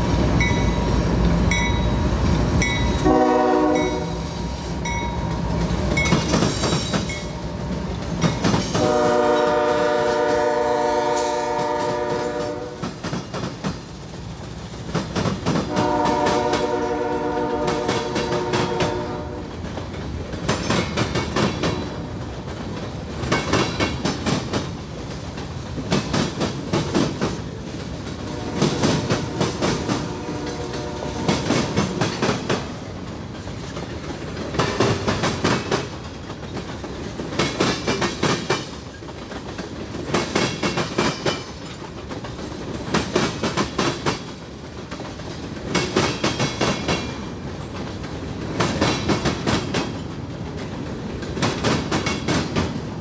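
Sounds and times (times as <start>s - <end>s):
rumble of train cars: 0.0s - 53.0s
train wheels clacking over joints: 2.6s - 53.0s.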